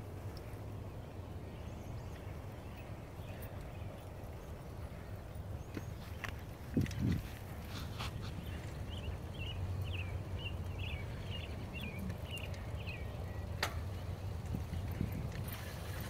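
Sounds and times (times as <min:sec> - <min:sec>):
bike rolling on dirt trail: 0:00.0 - 0:16.0.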